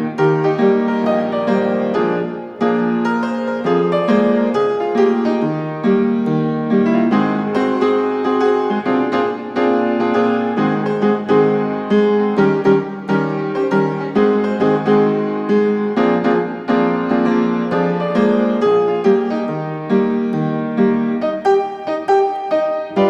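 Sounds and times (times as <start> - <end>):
piano background music: 0.0 - 23.0.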